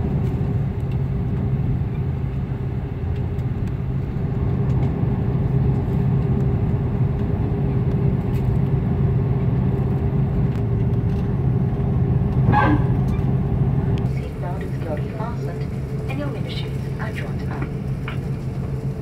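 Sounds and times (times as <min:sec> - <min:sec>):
airliner engines rumbling: 0:00.0 - 0:19.0.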